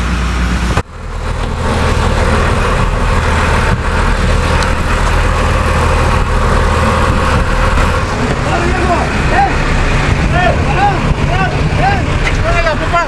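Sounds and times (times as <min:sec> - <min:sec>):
boat engine humming: 0:00.0 - 0:13.0
water: 0:00.0 - 0:13.0
wind: 0:00.0 - 0:13.0.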